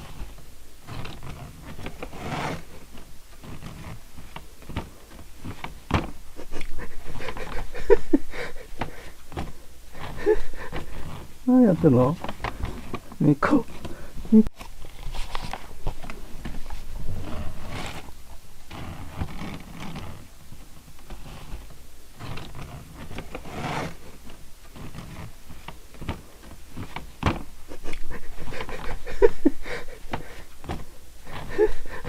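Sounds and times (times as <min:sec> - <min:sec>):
paper bag rustling and scraping: 0:00.0 - 0:32.0.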